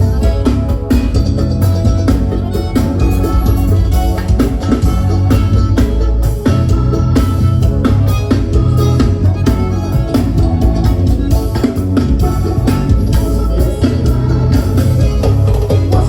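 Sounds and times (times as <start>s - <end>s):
loud band music through pa: 0.0s - 16.0s.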